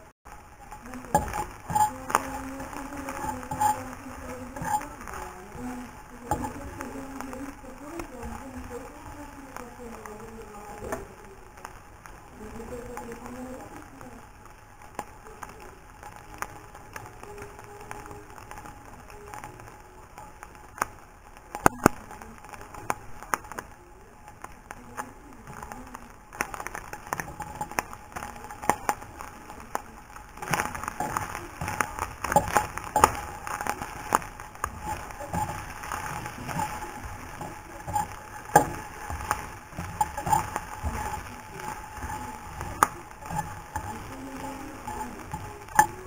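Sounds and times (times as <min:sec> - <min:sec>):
bacon sizzling in a frying pan: 0:00.0 - 0:46.0.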